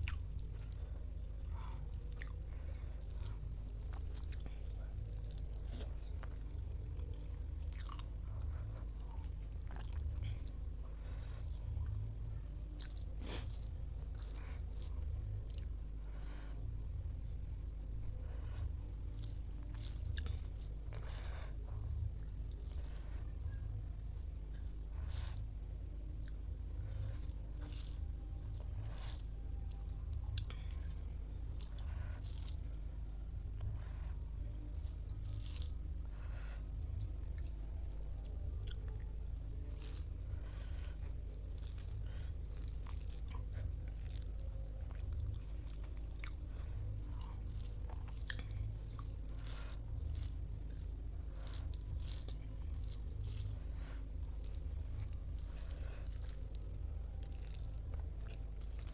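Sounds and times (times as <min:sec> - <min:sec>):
person chewing crunchy food: 0:00.0 - 0:58.9
steady low hum: 0:00.0 - 0:58.9.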